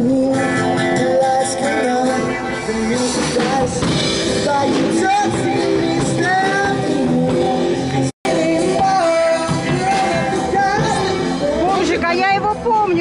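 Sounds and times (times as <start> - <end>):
person singing: 0.0 - 12.6
electric guitar: 0.0 - 13.0
street band playing rock music: 0.0 - 13.0.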